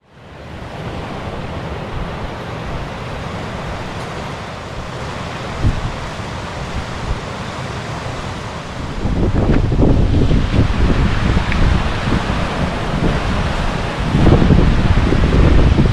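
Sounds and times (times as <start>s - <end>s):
waterfall rushing: 0.1s - 15.9s
wind buffeting microphone: 0.3s - 15.9s.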